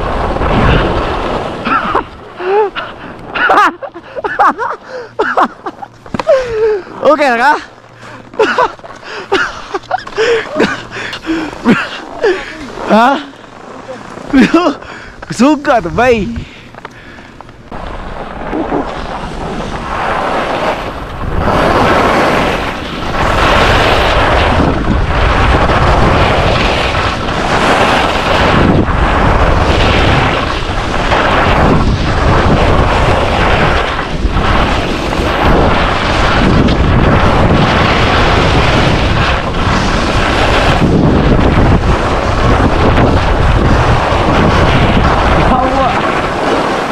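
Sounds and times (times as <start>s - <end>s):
ski edges scraping snow: 0.0s - 2.0s, 3.3s - 46.9s
wind buffeting microphone: 0.0s - 46.9s.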